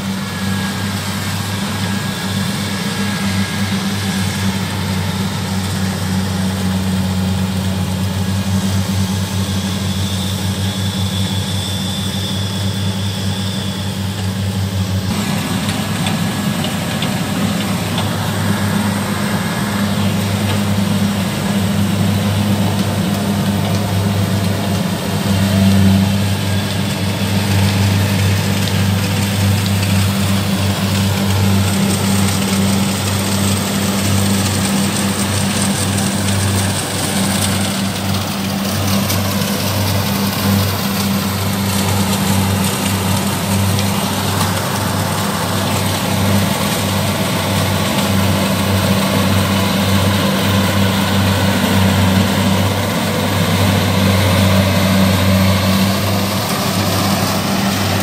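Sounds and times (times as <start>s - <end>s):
combine harvester diesel engine hum: 0.0s - 58.0s.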